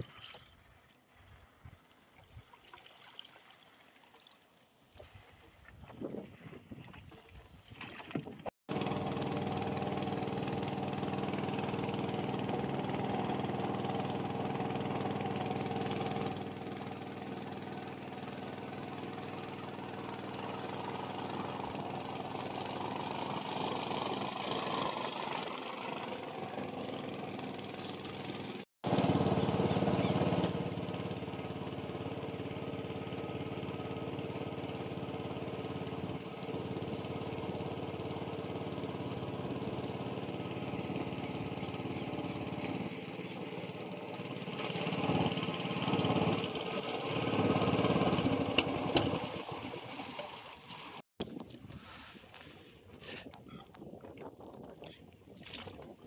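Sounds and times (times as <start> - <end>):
boat motor running: 5.6 - 56.0.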